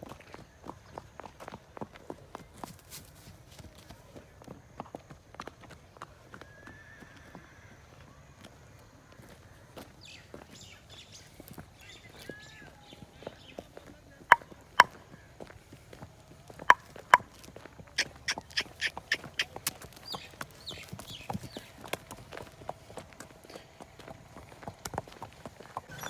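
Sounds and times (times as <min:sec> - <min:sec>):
hooves on hard ground: 0:00.0 - 0:26.0.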